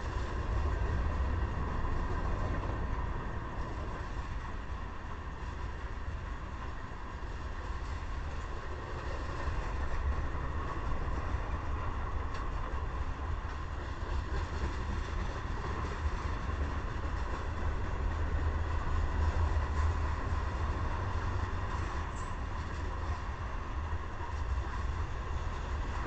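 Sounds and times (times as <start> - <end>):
faint steady whine: 0.0 - 26.0
train wheels rumbling on rails: 0.0 - 26.0.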